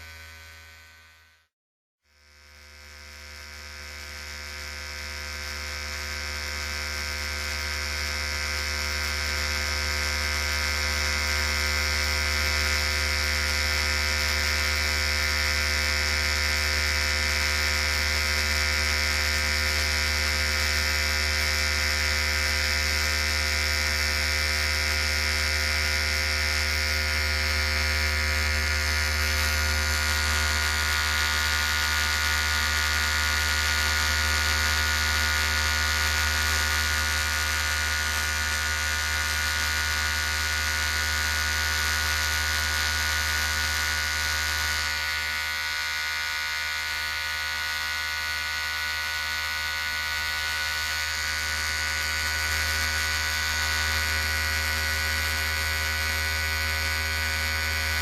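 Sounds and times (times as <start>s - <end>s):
electric hair clipper buzzing: 0.0s - 1.5s, 2.1s - 58.0s.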